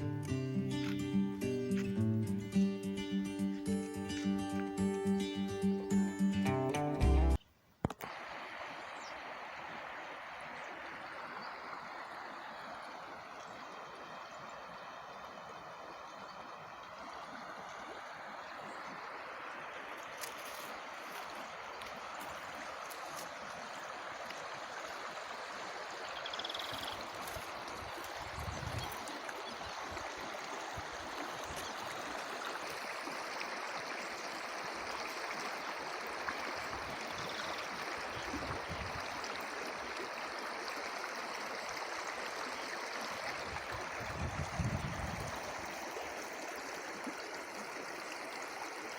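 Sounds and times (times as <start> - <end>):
stream water running: 0.0 - 6.3, 7.2 - 48.9.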